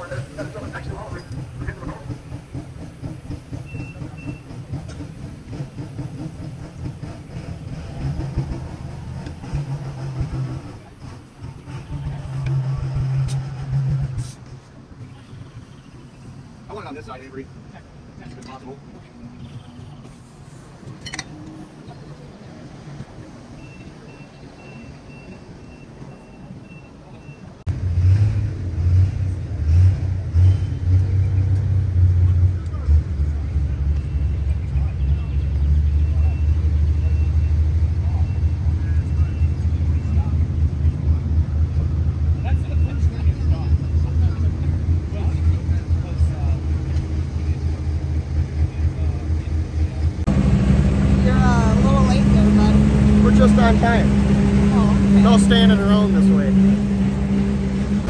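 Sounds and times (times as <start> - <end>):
large engine rumbling: 0.0 - 58.0.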